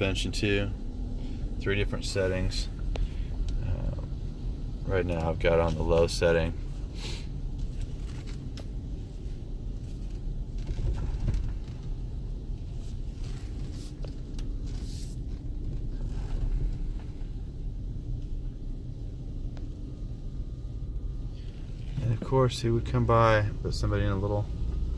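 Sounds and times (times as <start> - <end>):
car engine and tyres rumbling: 0.0 - 24.9.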